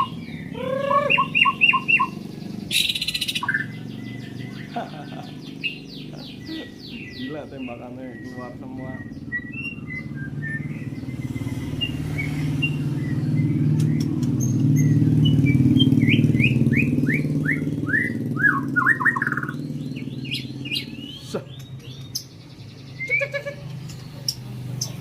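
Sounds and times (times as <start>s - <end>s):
low engine rumble: 0.0s - 25.0s
songbird singing sweeping notes: 0.0s - 25.0s.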